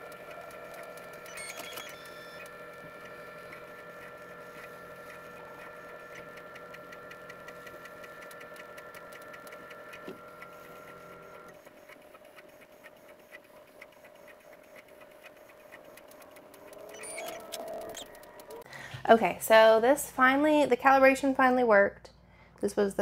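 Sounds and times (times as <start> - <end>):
printer motor whine: 0.0 - 18.7.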